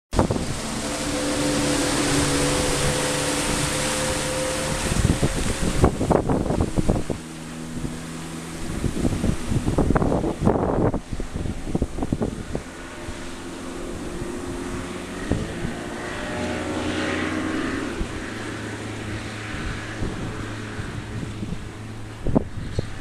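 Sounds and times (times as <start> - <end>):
hull thumping and splashing: 0.1 - 23.0
outboard engine drone: 0.1 - 23.0
wind noise on microphone: 0.1 - 23.0.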